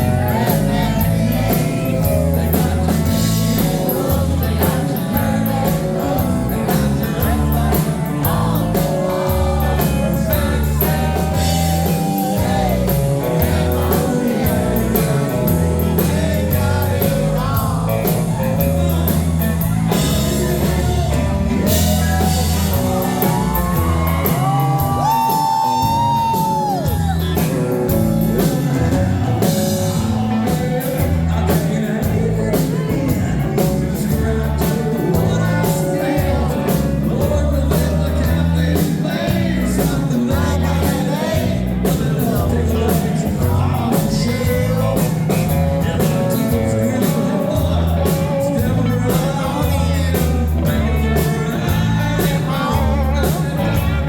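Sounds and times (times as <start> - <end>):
country-rock band playing: 0.0 - 54.0
person singing: 0.0 - 54.0.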